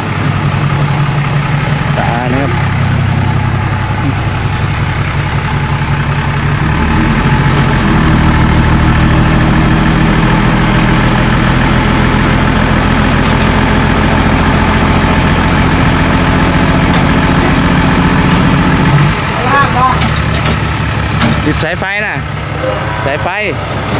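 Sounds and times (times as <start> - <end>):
dump truck diesel engine: 0.0 - 23.9.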